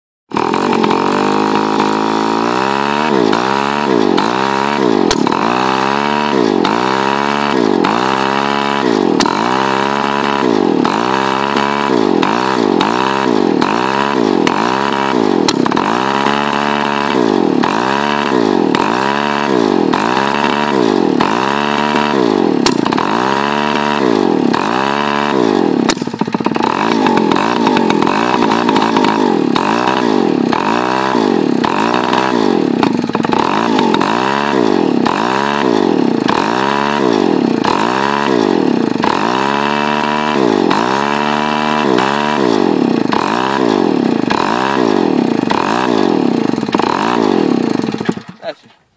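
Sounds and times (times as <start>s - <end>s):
moped engine revving: 0.3s - 48.8s.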